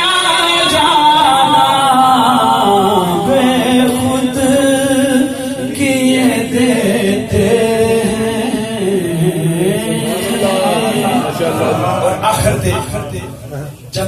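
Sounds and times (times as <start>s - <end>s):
man singing unaccompanied: 0.0s - 11.8s.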